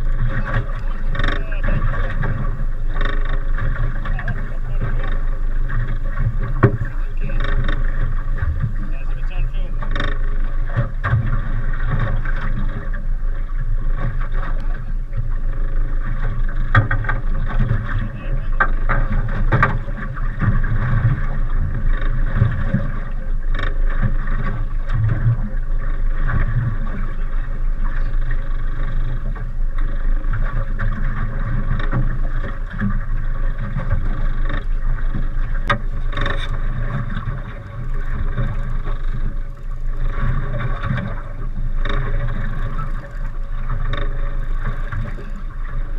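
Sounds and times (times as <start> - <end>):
wind and water rushing: 0.0 - 45.9.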